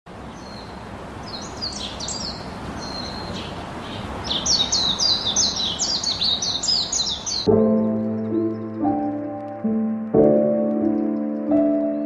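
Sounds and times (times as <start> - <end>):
outdoor background noise: 0.1 - 12.0
songbirds chirping: 0.1 - 12.0.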